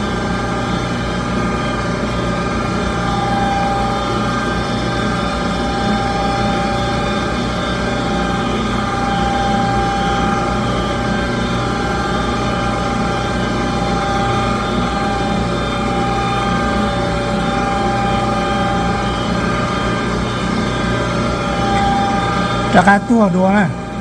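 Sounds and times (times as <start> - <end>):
furnace fan motor humming: 0.0 - 24.0.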